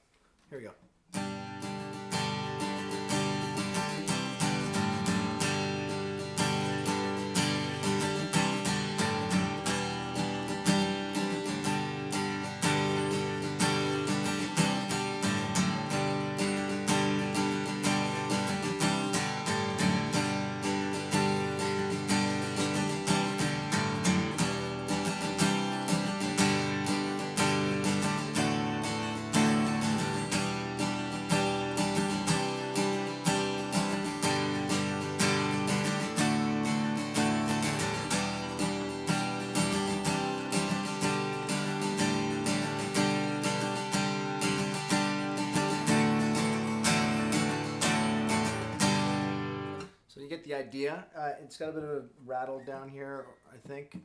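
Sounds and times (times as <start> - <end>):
acoustic guitar strummed chords: 1.2 - 50.0.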